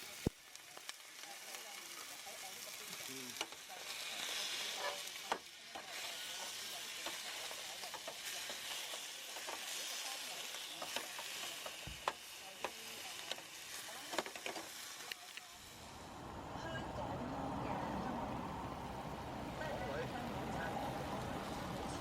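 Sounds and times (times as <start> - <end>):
food sizzling in a pan: 0.0 - 16.9, 17.6 - 22.0.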